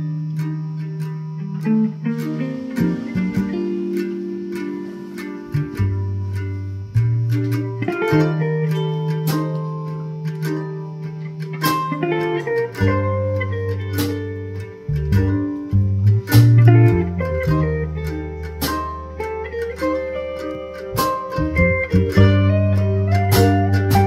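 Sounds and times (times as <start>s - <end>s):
electric bass notes: 0.0s - 24.0s
electric guitar melody: 0.0s - 24.0s.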